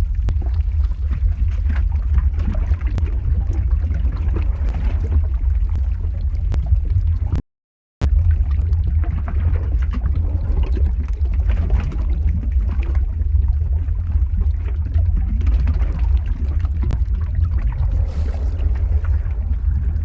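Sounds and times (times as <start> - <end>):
deep rumble: 0.0 - 7.4, 8.0 - 20.0
lava gurgling and popping: 0.0 - 7.4, 8.0 - 20.0.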